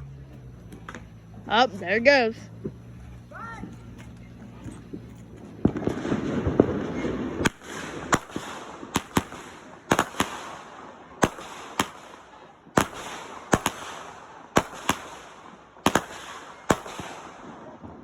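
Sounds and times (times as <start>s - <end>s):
crackling hiss: 0.0s - 18.0s
fireworks bangs: 0.0s - 18.0s.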